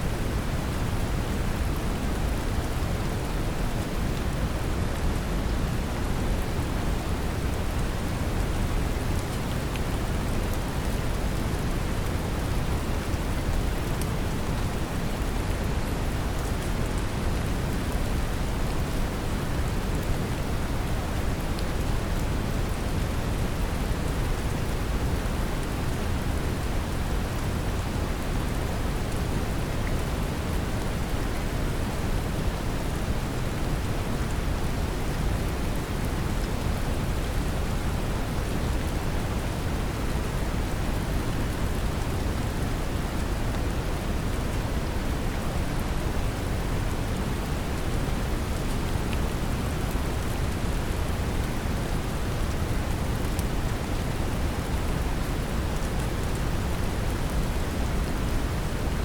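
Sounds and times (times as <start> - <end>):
gentle rain hiss: 0.0 - 59.0.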